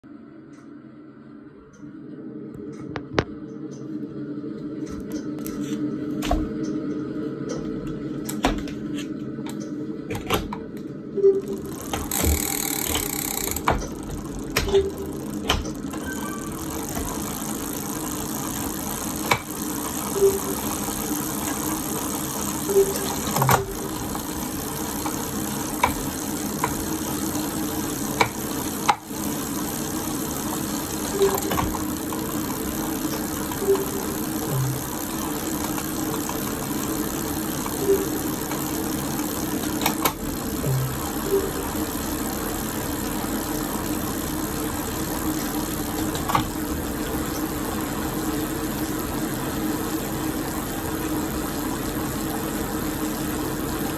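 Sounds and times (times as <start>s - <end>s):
bike trainer whirring: 1.6s - 53.9s.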